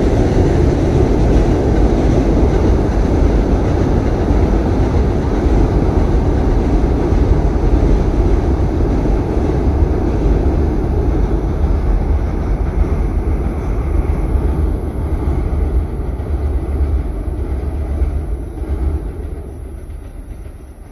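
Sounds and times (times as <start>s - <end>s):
train wheels rumbling on bridge: 0.0s - 20.9s.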